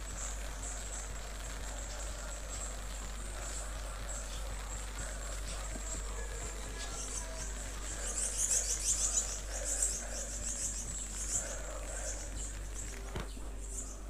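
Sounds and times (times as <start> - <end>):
fireworks crackling and fizzing: 0.0 - 14.0.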